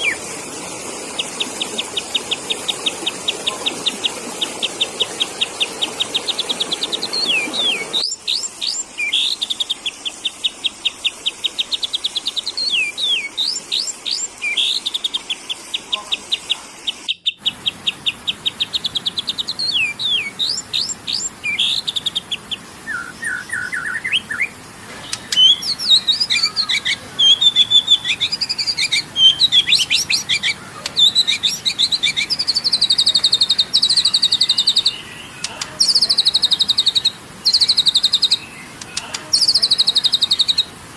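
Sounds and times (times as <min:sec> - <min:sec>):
bird chirping and chattering: 0:00.0 - 0:40.8
faint background hiss: 0:00.0 - 0:40.9.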